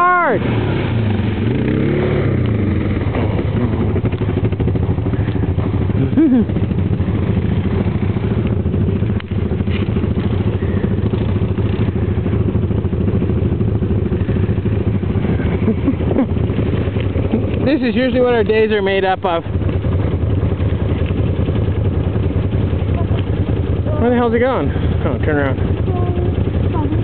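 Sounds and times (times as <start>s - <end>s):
quad engine running: 0.0s - 27.0s.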